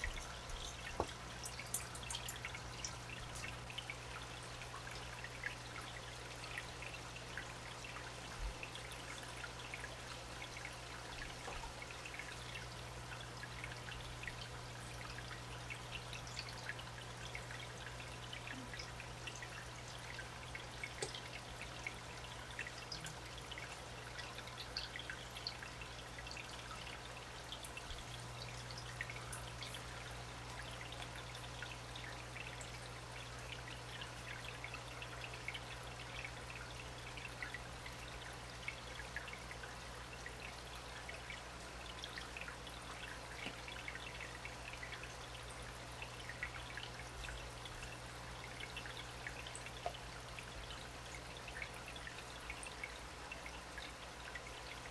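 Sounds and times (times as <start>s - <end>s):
low steady hum: 0.0s - 54.9s
water drips and splashes: 0.0s - 54.9s
water trickling and bubbling: 0.0s - 54.9s.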